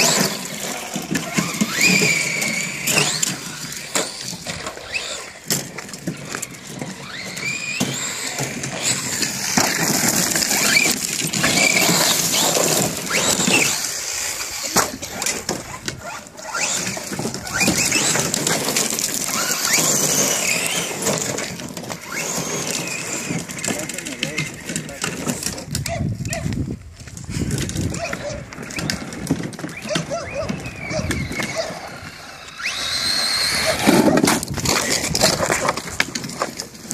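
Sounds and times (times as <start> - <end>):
rc truck electric motor whining: 0.0 - 25.9, 27.3 - 36.9
crunching and clicking: 0.0 - 36.9
tyres scrabbling on gravel: 0.0 - 36.9.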